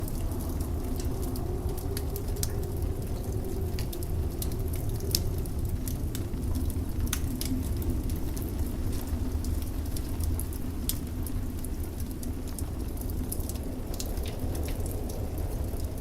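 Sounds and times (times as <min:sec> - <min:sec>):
blizzard wind rushing: 0:00.0 - 0:16.0
wood fire crackling and popping: 0:00.0 - 0:16.0.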